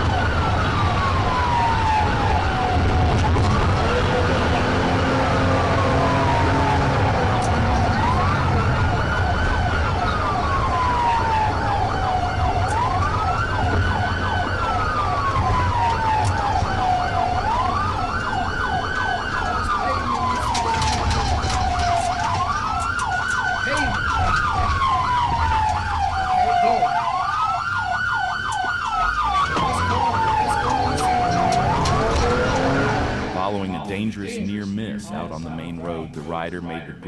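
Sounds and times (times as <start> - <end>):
car engine rumble: 0.0 - 37.0
police siren wailing: 0.0 - 37.0
road noise: 0.0 - 37.0.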